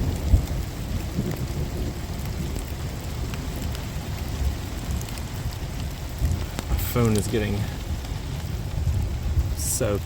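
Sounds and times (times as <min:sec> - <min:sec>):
heavy rain pouring: 0:00.0 - 0:10.0
raindrops ticking on phone: 0:00.0 - 0:10.0
thunder rumbling: 0:00.0 - 0:10.0.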